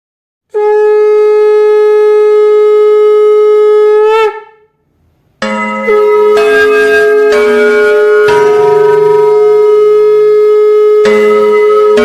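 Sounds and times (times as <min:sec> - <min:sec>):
conch shell blown: 0:00.5 - 0:04.8, 0:05.8 - 0:12.0.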